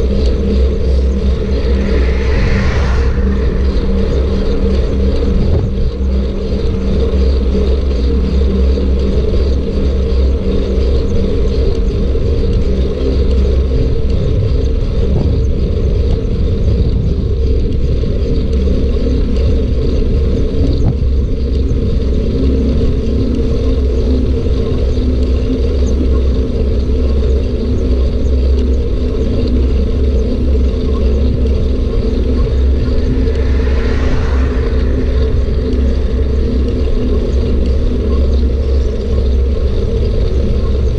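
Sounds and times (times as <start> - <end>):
bike rolling and wind noise: 0.0 - 40.9.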